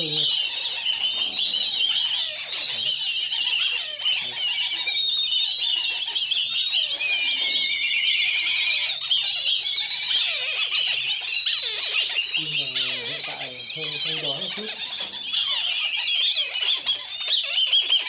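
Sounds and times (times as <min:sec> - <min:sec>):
bird chicks calling: 0:00.0 - 0:18.0.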